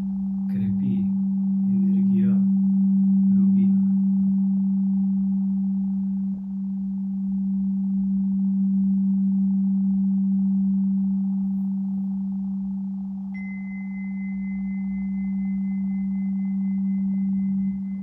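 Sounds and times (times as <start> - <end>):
singing bowl low pure tone: 0.0 - 18.0
tuning fork high tone: 0.0 - 18.0.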